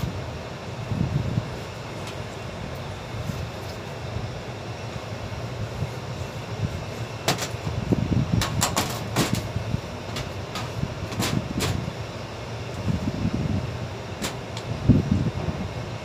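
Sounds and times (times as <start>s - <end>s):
air-conditioning machinery hum: 0.0s - 16.0s.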